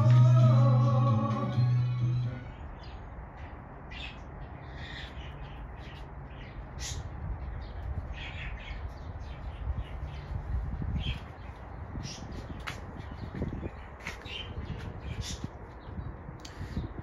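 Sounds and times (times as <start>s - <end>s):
birds calling: 1.5s - 17.0s.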